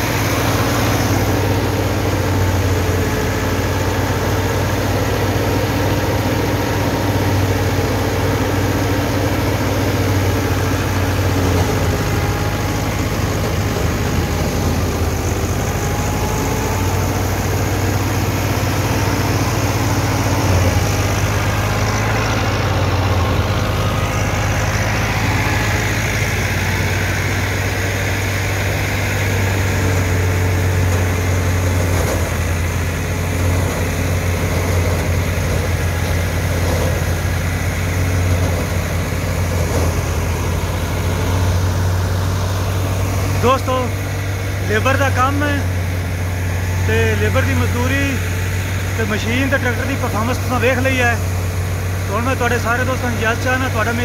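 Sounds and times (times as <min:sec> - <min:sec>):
thresher drum whirring: 0:00.0 - 0:54.0
tractor diesel engine running: 0:00.0 - 0:54.0.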